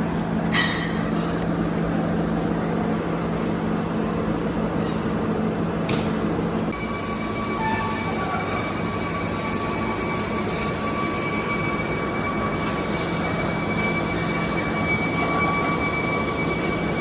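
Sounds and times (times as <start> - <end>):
high machine whine: 0.0 - 17.0
industrial machinery running: 0.0 - 17.0.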